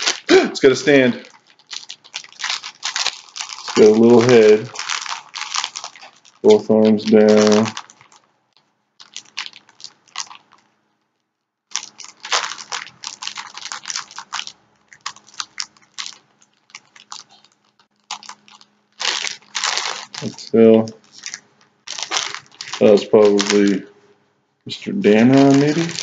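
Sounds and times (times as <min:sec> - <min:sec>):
packaging crinkling and tearing: 0:00.0 - 0:10.7, 0:11.7 - 0:23.8, 0:25.1 - 0:26.0.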